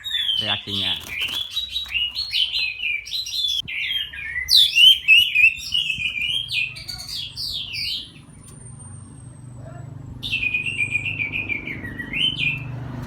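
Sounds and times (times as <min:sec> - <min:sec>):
thrush singing whistled notes: 0:00.0 - 0:12.8.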